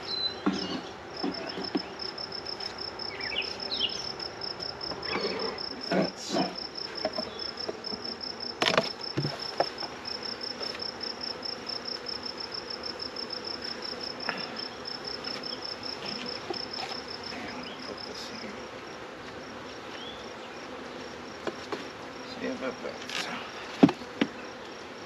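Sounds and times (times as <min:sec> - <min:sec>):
bees buzzing: 0:00.0 - 0:25.0
cricket chirping: 0:00.0 - 0:25.0.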